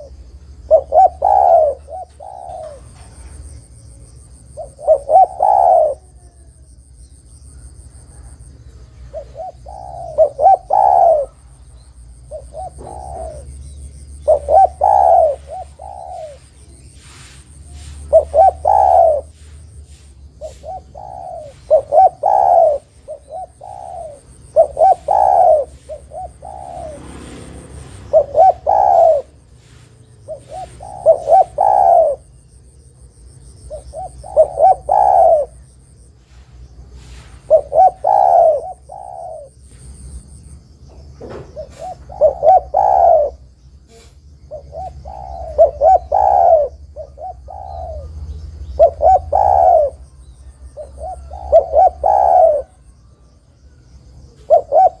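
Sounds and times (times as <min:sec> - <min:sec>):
dove cooing: 0:00.0 - 0:40.3, 0:41.2 - 0:55.0.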